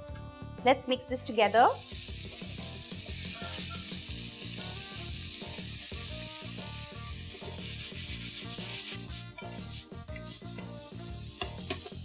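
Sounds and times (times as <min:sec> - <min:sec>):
vegetables sizzling in a wok: 0:01.2 - 0:12.0.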